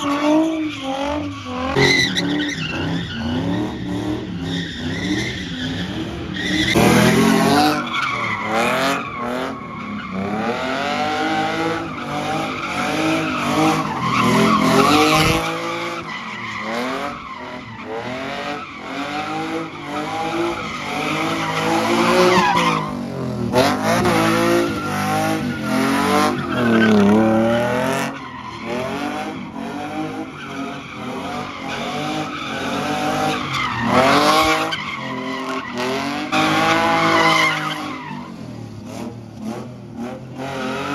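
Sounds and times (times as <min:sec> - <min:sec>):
car engine revving: 0:00.0 - 0:38.2
tires squealing: 0:00.0 - 0:40.9.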